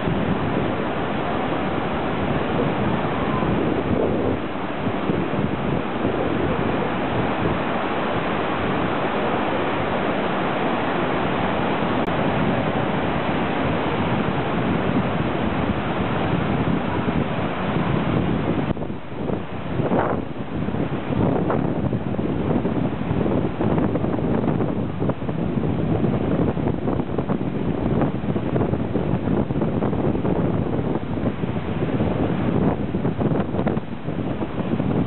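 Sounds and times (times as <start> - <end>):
surf breaking on beach: 0.0 - 35.0
wind on microphone: 0.0 - 35.0.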